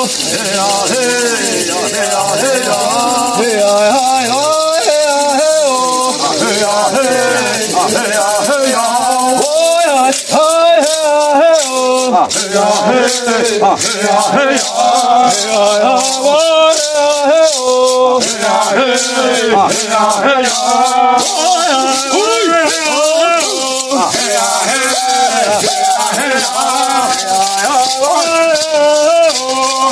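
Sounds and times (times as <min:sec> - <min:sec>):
maracas rattling: 0:00.0 - 0:29.9
voices singing a chant: 0:00.0 - 0:29.9.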